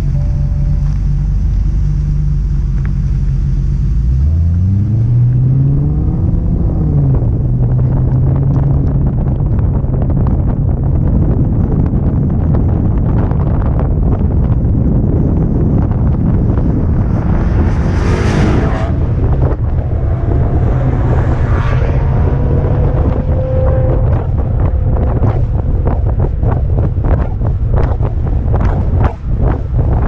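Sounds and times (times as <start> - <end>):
car engine: 0.0 - 30.0
tyre and wind noise: 0.0 - 30.0.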